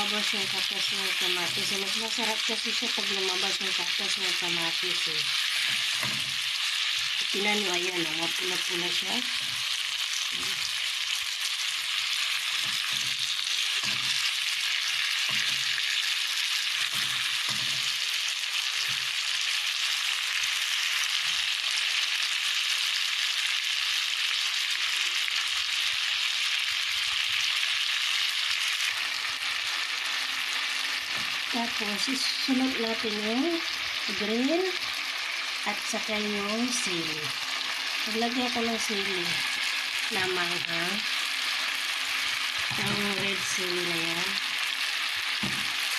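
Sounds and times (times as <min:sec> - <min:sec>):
onions sizzling in oil: 0:00.0 - 0:45.9.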